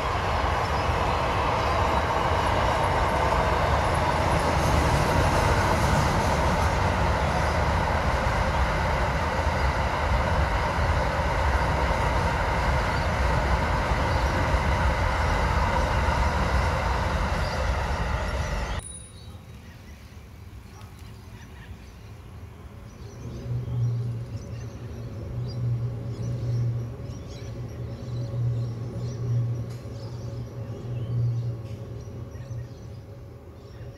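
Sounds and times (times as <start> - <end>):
wheel-on-rail noise: 0.0 - 18.8, 22.8 - 33.9
train rumbling past: 0.0 - 19.0, 22.2 - 33.9.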